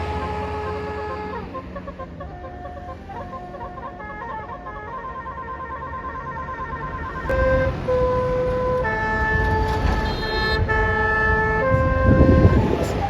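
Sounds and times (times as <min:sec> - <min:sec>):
multi-tone bus horns playing tune: 0:00.0 - 0:13.0.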